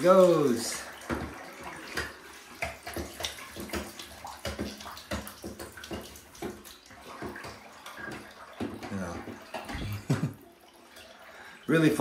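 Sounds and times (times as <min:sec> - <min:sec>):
bathwater splashing: 0:00.0 - 0:12.0.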